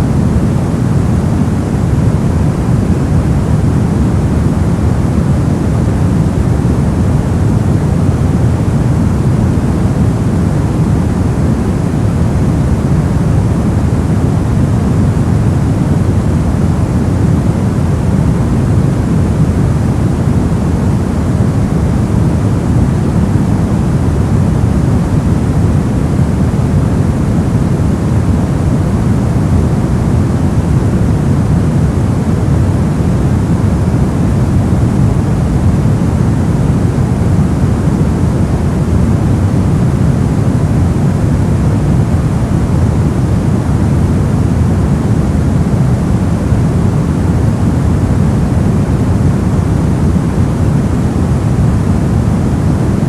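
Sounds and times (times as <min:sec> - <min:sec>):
deep even white noise: 0:00.0 - 0:53.0.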